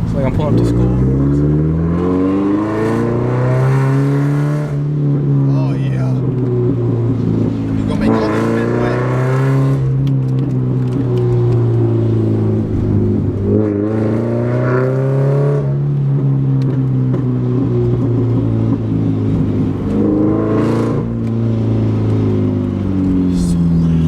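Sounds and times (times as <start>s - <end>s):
car engine with loud exhaust: 0.0s - 24.0s.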